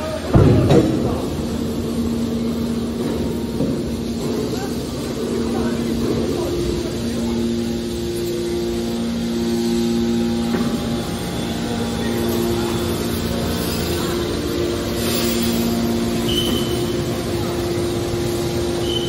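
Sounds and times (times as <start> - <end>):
electric motors and pumps humming: 0.0 - 19.0
machine noise: 0.0 - 19.0.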